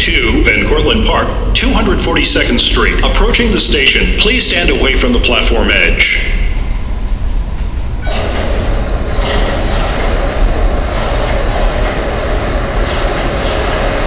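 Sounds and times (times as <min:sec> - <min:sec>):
subway train wheels rumbling on rails: 0:00.0 - 0:14.0.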